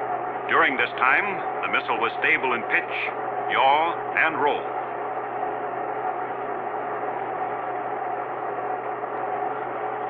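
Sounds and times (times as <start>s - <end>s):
low hum: 0.0s - 10.0s
rocket engine roar: 0.0s - 10.0s
steady tones: 0.0s - 10.0s.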